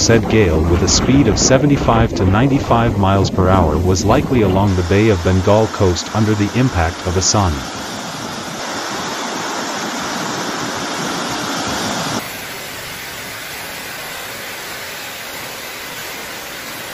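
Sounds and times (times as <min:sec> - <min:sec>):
storm wind and water roaring: 0:00.0 - 0:16.9.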